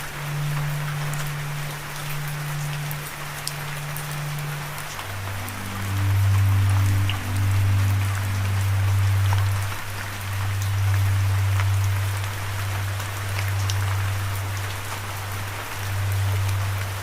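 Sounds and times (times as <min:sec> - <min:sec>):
loud low hum: 0:00.0 - 0:17.0
raindrops ticking: 0:00.0 - 0:17.0
steady rain: 0:00.0 - 0:17.0.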